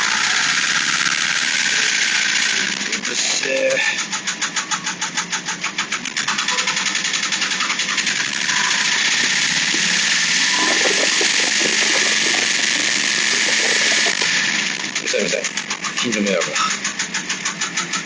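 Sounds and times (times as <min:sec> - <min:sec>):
car engine with rhythmic clatter: 0:00.0 - 0:18.0.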